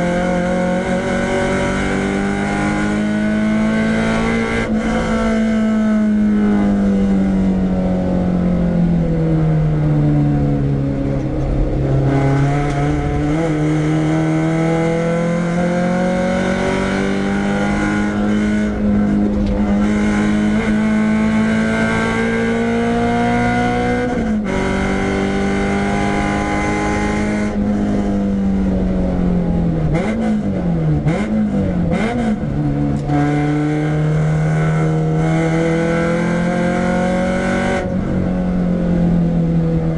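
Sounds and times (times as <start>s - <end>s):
car engine revving hard: 0.0s - 8.4s, 11.7s - 28.2s, 29.8s - 38.7s.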